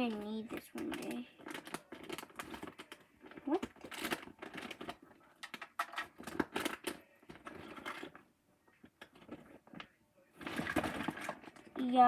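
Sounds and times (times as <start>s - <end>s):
toys handled and set down: 0.8s - 8.2s, 8.8s - 11.9s.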